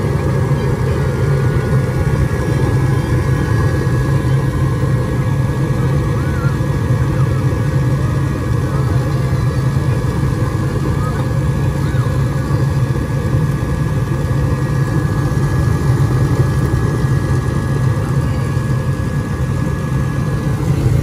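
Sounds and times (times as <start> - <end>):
furnace burner rumble: 0.0 - 21.0.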